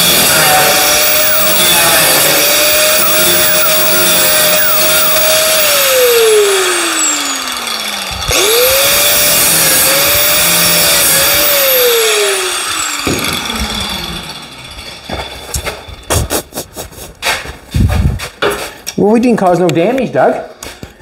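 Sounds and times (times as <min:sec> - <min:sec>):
angle grinder grinding metal: 0:00.0 - 0:17.4.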